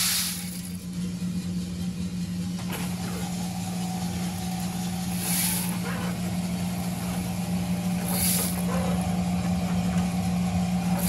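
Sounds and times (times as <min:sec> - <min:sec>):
motor and fan hum: 0:00.0 - 0:11.0.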